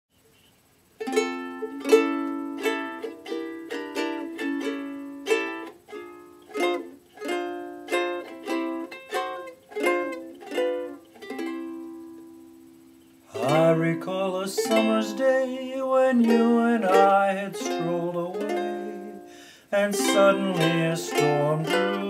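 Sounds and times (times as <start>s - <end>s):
ukulele strumming chords: 0.7s - 22.0s.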